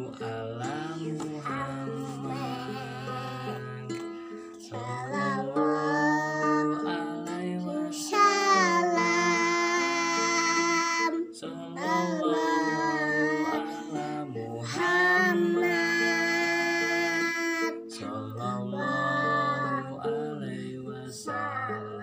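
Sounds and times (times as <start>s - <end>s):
young person singing: 0.0s - 22.0s.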